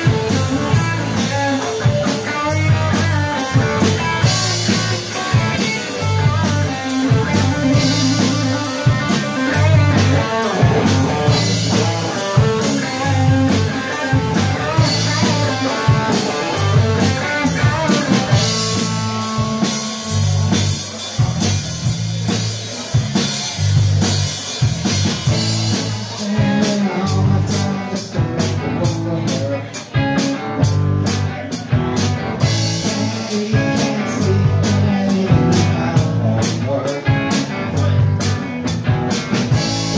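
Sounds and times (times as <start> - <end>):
drum kit beat: 0.0 - 39.9
electric guitars: 0.0 - 39.9.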